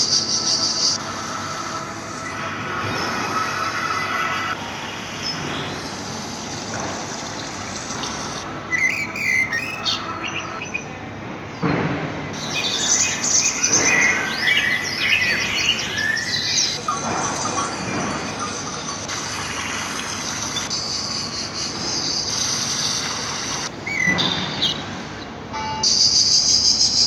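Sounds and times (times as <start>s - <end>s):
birds chirping: 0.0s - 1.1s, 2.2s - 11.7s, 12.3s - 27.0s.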